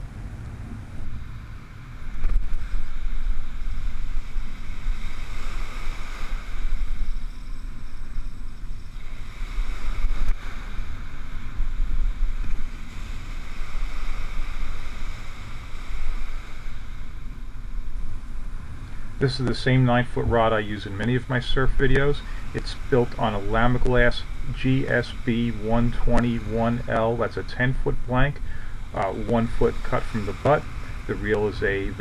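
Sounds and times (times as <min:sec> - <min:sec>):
surf washing up beach: 0:00.0 - 0:32.0
wind buffeting microphone: 0:00.0 - 0:32.0.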